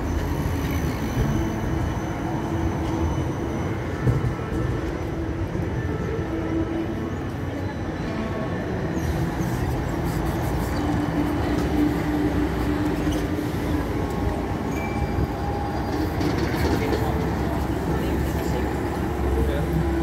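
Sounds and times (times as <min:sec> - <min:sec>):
trams and buses rolling past: 0:00.0 - 0:20.0
trolleybus hum: 0:00.0 - 0:20.0.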